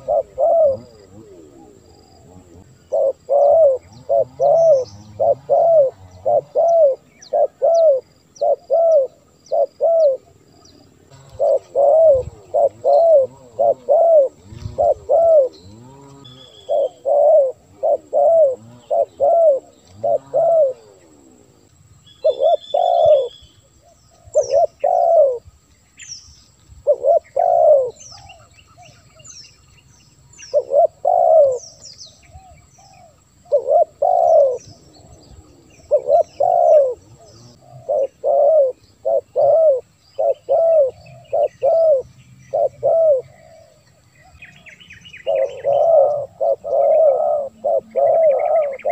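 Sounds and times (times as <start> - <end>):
dove cooing: 0.0 - 25.5, 26.8 - 29.2, 30.4 - 48.9
small birds chirping: 0.0 - 48.9.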